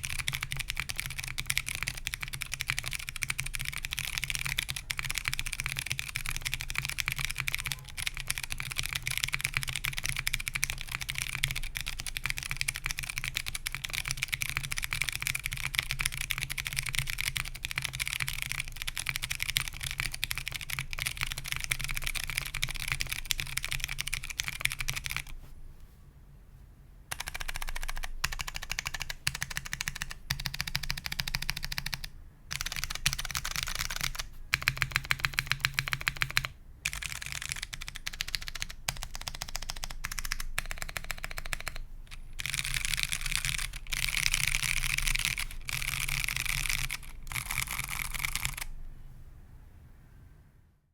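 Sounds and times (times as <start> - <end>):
fast mechanical keyboard typing: 0.0 - 25.4, 27.1 - 48.8.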